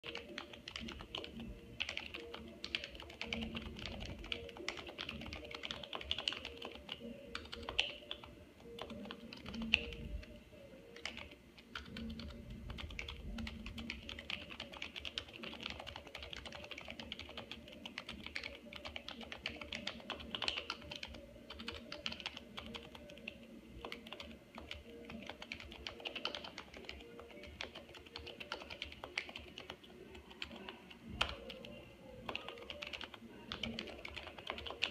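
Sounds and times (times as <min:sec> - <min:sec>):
keyboard typing: 0:00.0 - 0:34.9.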